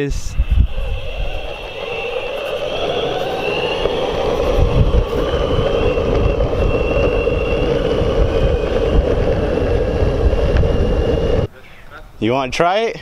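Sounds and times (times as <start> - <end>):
faint high whine: 0.0 - 11.5
wind buffeting microphone: 0.0 - 11.5
skateboard wheels rolling on asphalt: 0.6 - 11.5.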